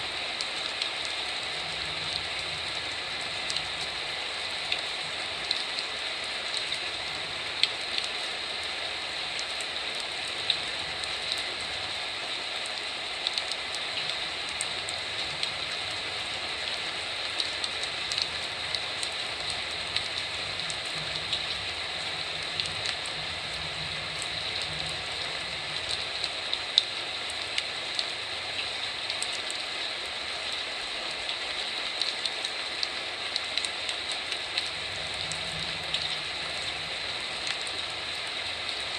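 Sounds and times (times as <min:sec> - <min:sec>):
heavy rain hissing: 0:00.0 - 0:38.9
raindrops striking close by: 0:00.0 - 0:38.9.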